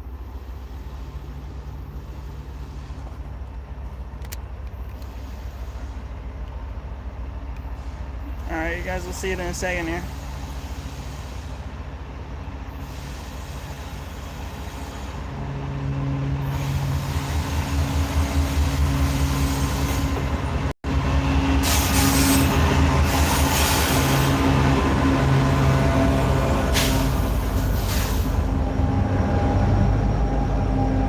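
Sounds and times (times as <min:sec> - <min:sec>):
diesel locomotive engine drone: 0:00.0 - 0:31.0
high rail and wheel hiss: 0:00.0 - 0:31.0.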